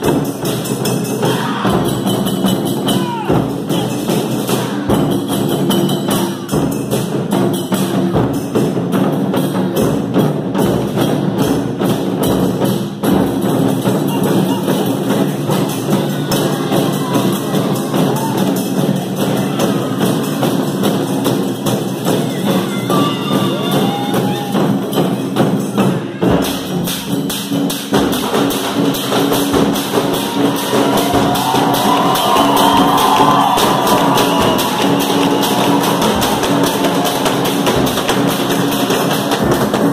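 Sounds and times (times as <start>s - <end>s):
taiko drums playing fast rhythm: 0.0s - 39.9s.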